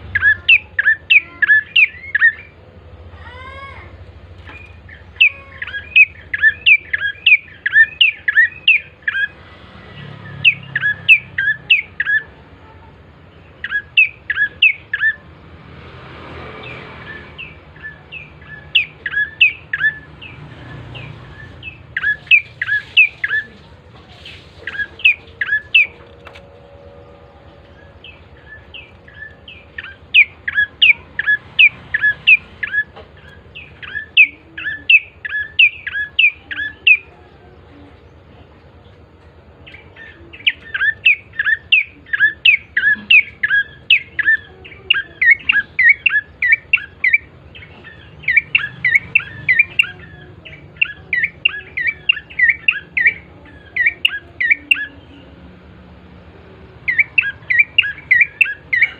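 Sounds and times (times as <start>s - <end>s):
bird chirping rapidly: 0.0s - 37.4s, 39.6s - 55.3s, 56.7s - 58.9s.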